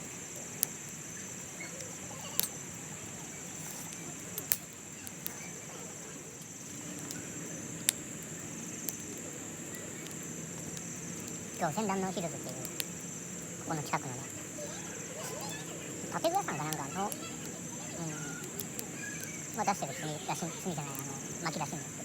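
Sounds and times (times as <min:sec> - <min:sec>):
sharp pops from grill: 0:00.0 - 0:05.7, 0:06.4 - 0:22.0
crickets trilling: 0:00.0 - 0:22.0.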